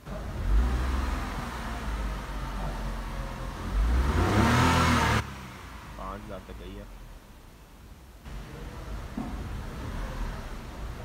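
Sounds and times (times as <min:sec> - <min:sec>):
car engine revving: 0:00.0 - 0:07.6, 0:08.3 - 0:11.0.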